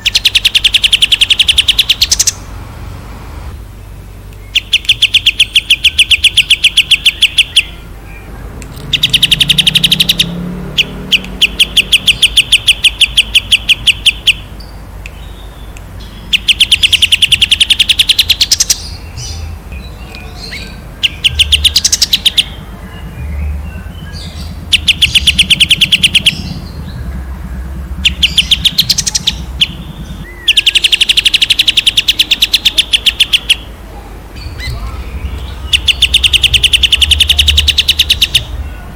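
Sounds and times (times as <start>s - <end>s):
songbird trilling bursts: 0.0s - 2.5s, 4.4s - 33.8s, 34.4s - 38.6s.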